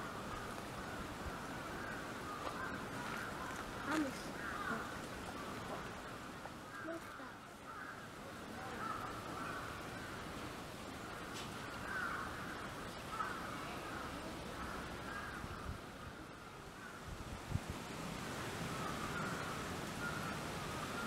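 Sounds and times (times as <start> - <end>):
birds calling: 0.0 - 17.0, 18.4 - 21.0
outdoor background noise: 0.0 - 21.0.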